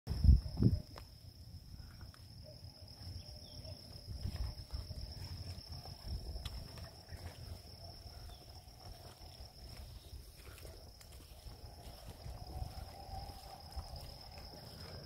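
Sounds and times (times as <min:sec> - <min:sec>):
high-pitched insect drone: 0:00.1 - 0:15.0.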